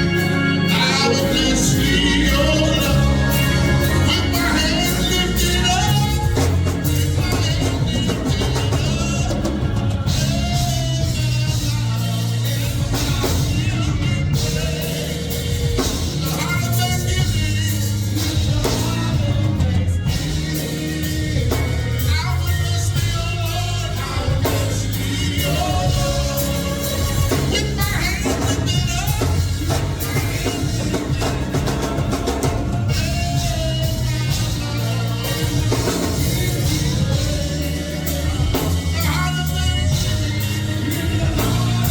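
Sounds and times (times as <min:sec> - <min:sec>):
drum kit: 0:00.0 - 0:41.9
steady bass line: 0:00.0 - 0:41.9
voices singing: 0:00.0 - 0:41.9.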